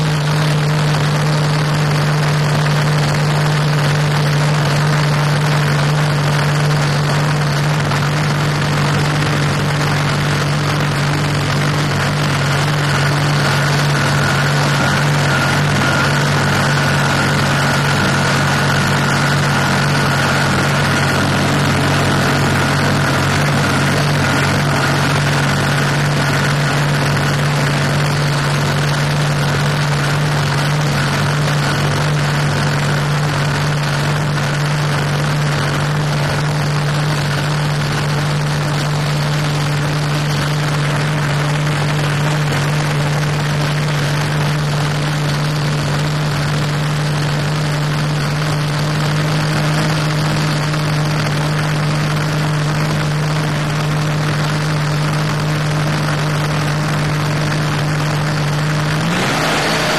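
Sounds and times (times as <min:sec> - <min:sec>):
thin high whine: 0:00.0 - 0:59.0
drag boat engine running: 0:00.0 - 0:59.9.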